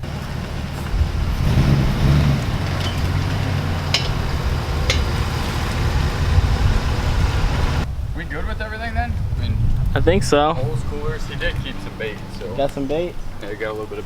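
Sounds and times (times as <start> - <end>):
pickup engine rumbling: 0.0 - 14.0.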